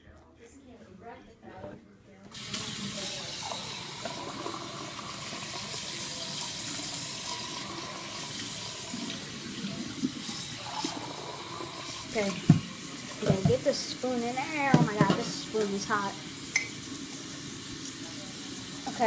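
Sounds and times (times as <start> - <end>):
tap water running into sink: 2.3 - 19.0.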